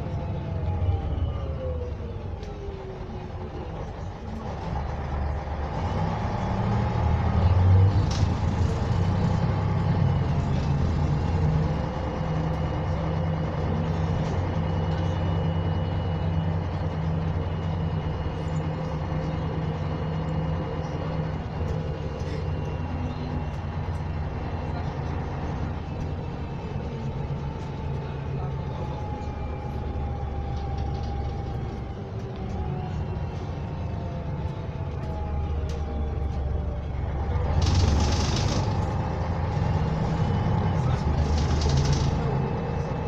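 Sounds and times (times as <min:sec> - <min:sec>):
bus diesel engine running: 0:00.0 - 0:43.0
road noise: 0:00.0 - 0:43.0.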